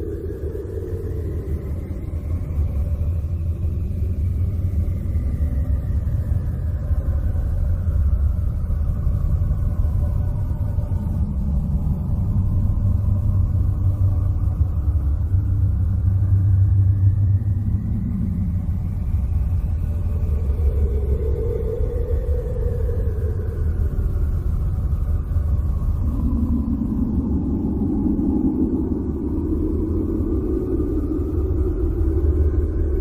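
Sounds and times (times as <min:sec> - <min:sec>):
deep continuous rumble: 0:00.0 - 0:33.0
eerie gliding tones: 0:00.0 - 0:33.0
wavering hum: 0:00.0 - 0:33.0.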